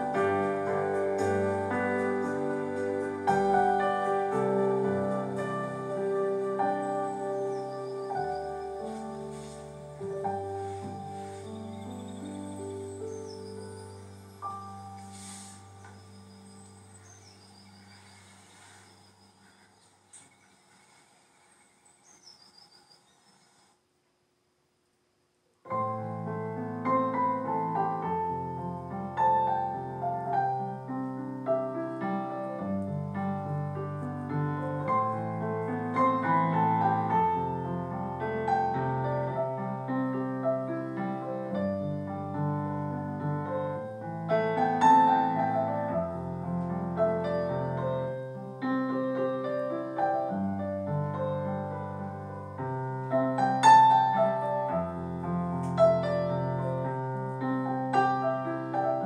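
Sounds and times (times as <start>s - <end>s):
slow piano music: 0.0s - 19.6s, 25.7s - 59.0s.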